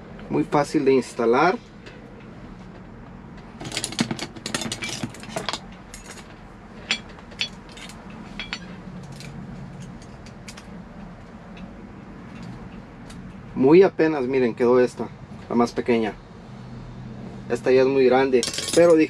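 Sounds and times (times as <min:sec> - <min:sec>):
steady low hum: 0:00.0 - 0:18.1.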